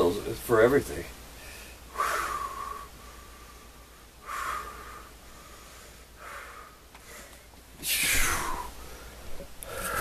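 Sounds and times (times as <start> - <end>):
man breathing forcefully: 1.4 - 10.0.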